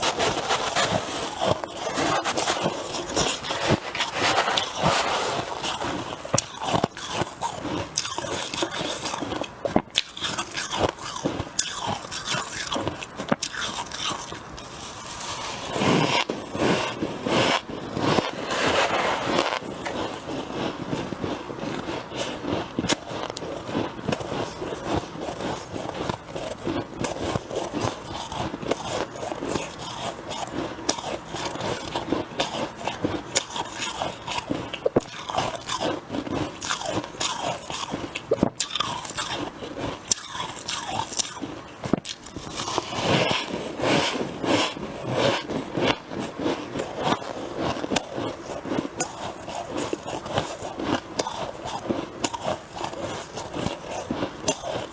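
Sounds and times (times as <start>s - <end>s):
chewing crunchy frost: 0.0s - 54.9s.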